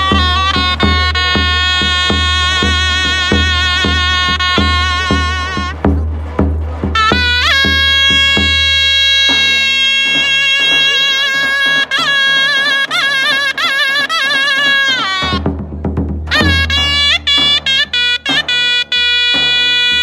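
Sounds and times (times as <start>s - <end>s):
drum beating: 0.0s - 20.0s
zurna playing trills: 0.0s - 20.0s.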